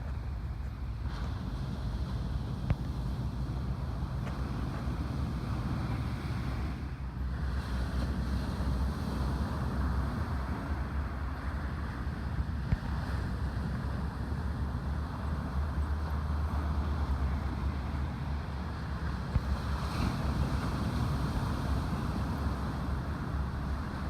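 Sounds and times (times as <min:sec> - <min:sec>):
ocean surf: 0:00.0 - 0:24.0
wind buffeting microphone: 0:00.0 - 0:24.0.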